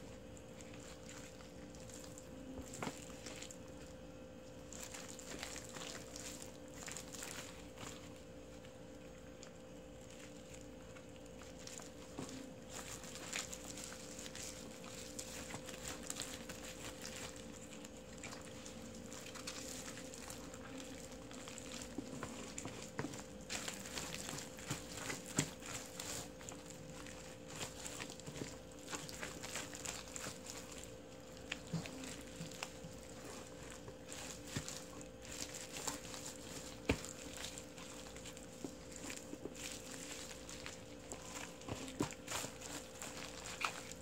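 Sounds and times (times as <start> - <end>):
faint steady hum: 0.0 - 44.0
wet squelches of cabbage in paste: 0.0 - 44.0.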